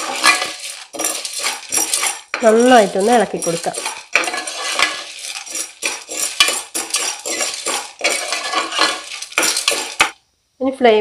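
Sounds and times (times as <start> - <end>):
metal spoon scraping a pan: 0.0 - 10.2
popcorn kernels rattling: 0.0 - 10.2.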